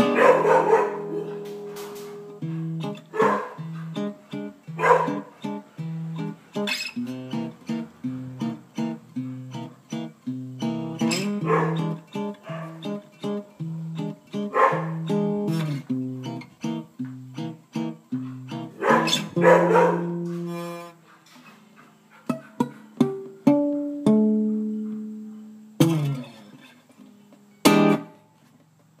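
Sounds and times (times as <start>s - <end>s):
acoustic guitar plucked notes: 0.0s - 21.0s, 22.3s - 28.2s
acoustic guitar strummed chords: 0.0s - 21.0s, 22.2s - 28.6s.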